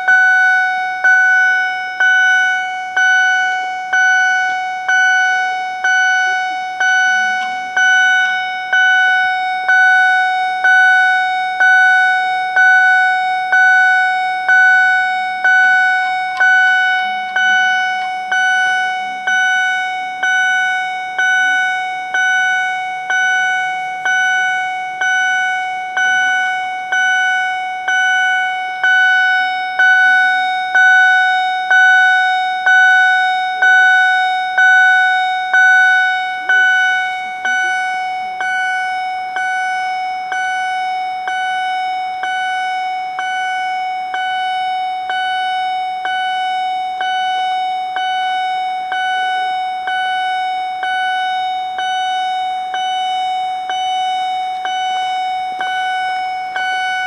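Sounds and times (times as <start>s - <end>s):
level crossing bell signal: 0.0s - 57.0s.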